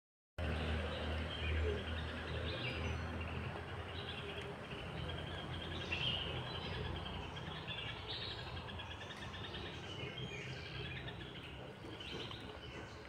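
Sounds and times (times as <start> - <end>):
birds chirping and calling: 0.4 - 13.0.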